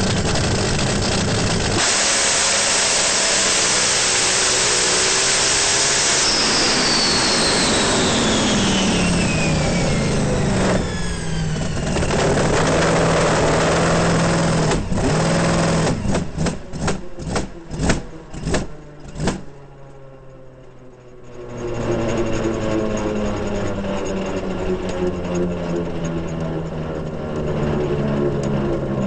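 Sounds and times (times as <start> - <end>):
loud engine roaring: 0.0 - 29.0.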